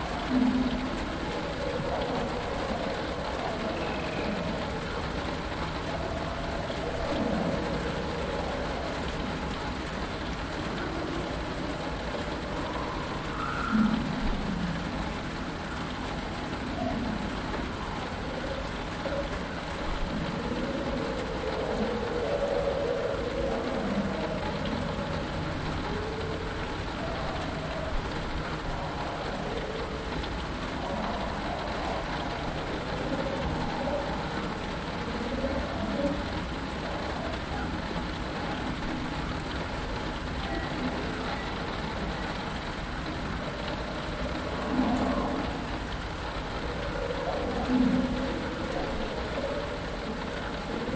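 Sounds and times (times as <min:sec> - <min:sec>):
faint wavering tones: 0:00.0 - 0:50.9
rain pattering on canopy: 0:00.0 - 0:50.9.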